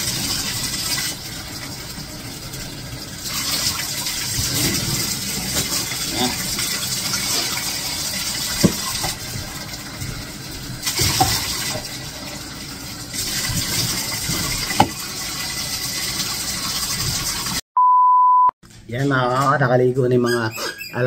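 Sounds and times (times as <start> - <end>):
running water splashing in bathtub: 0.0 - 17.6.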